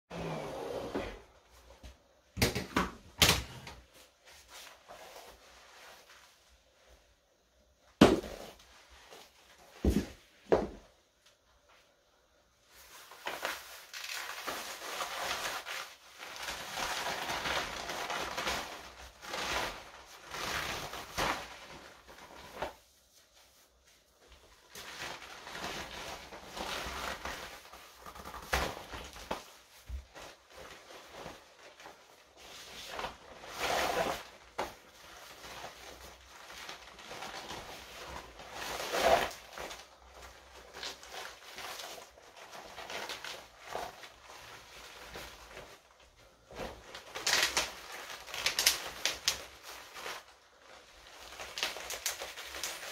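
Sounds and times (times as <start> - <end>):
leggings rustling and crinkling: 3.0 - 52.9.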